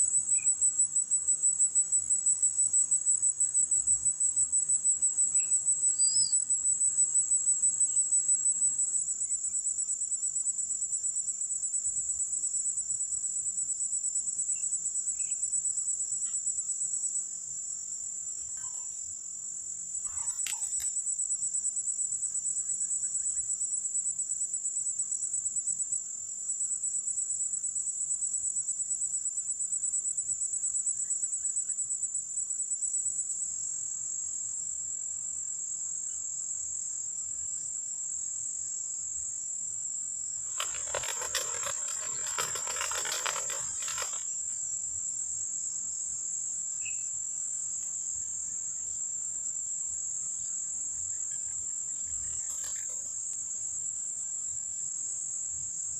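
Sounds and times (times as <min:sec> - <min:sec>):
insect chorus droning: 0:00.0 - 0:55.9.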